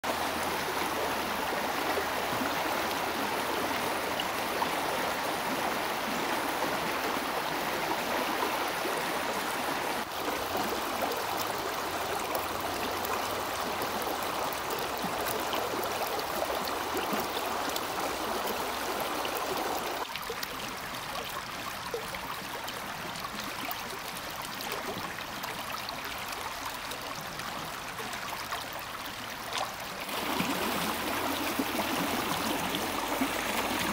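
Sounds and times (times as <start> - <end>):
river water rippling over stones: 0.0 - 33.9.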